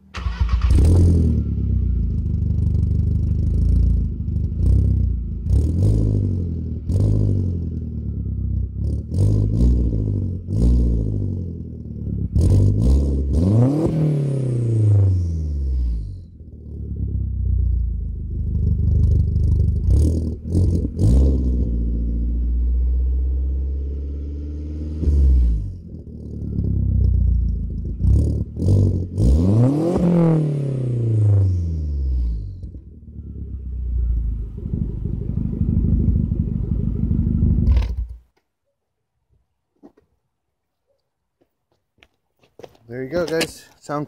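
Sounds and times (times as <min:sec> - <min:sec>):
car engine idling and revving: 0:00.0 - 0:38.3.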